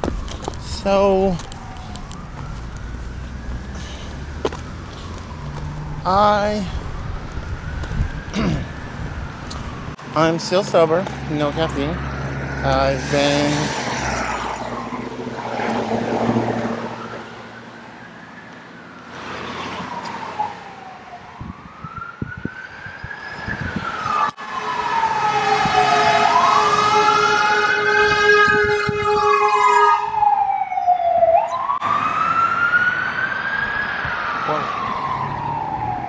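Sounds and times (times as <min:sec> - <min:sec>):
ambulance siren wailing: 0:00.0 - 0:36.0
second sweeping siren tone: 0:00.1 - 0:10.0, 0:12.0 - 0:36.0.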